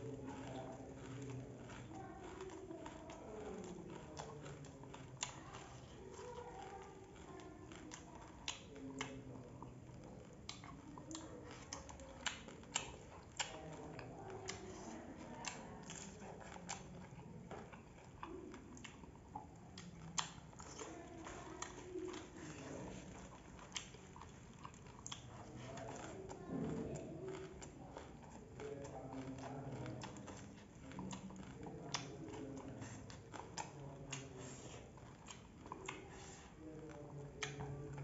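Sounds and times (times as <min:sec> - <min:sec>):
crunchy snack being chewed: 0:00.0 - 0:38.0.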